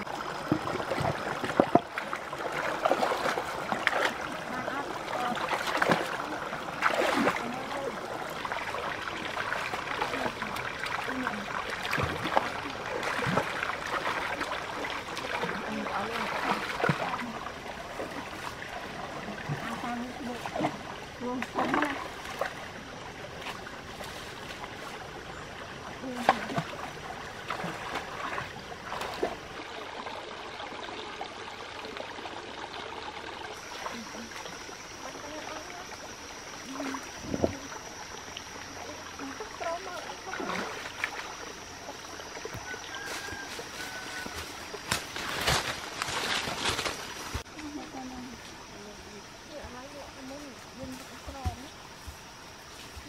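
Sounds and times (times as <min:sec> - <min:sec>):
stream running over rocks: 0:00.0 - 0:53.0.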